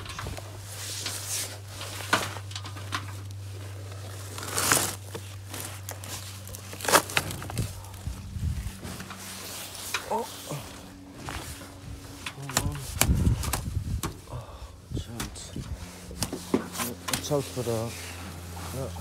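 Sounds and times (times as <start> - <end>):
rustling and scraping: 0.0 - 14.3, 14.9 - 19.0
steady low hum: 0.0 - 19.0.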